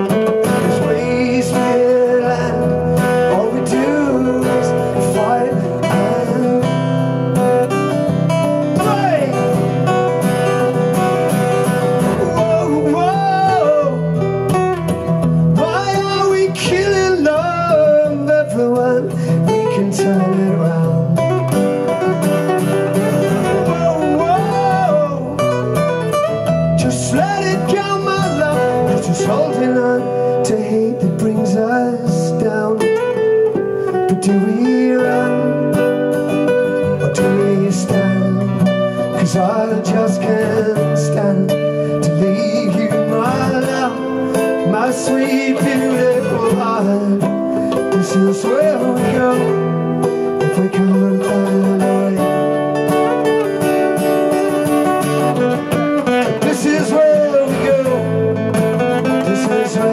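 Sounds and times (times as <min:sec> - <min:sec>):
man singing: 0:00.0 - 0:53.6, 0:54.8 - 0:59.9
acoustic guitar picking melody: 0:00.0 - 0:59.9
acoustic guitar strumming: 0:00.0 - 0:59.9.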